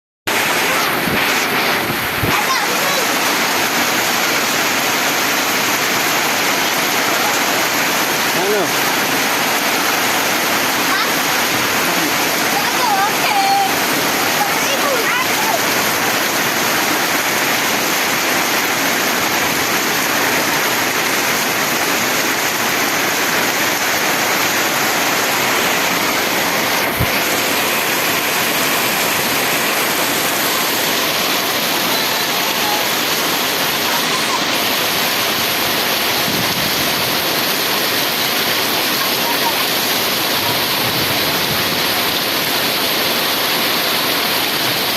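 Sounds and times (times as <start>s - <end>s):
heavy rain pouring: 0.3s - 44.9s.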